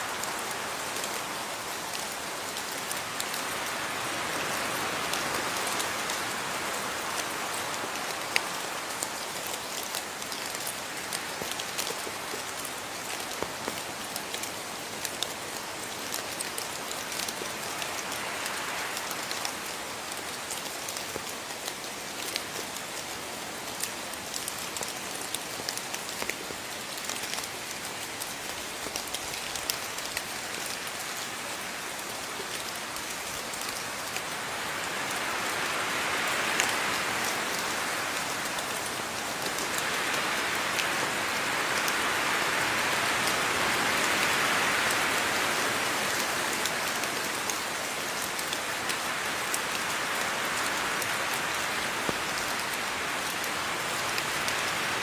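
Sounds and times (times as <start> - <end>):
rain falling: 0.0 - 55.0
raindrops ticking on a surface: 0.0 - 55.0.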